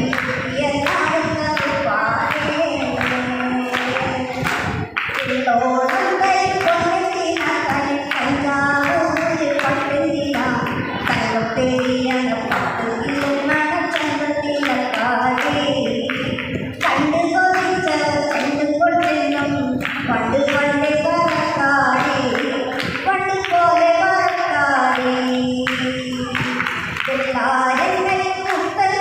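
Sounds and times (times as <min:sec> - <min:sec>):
woman singing: 0:00.0 - 0:29.0.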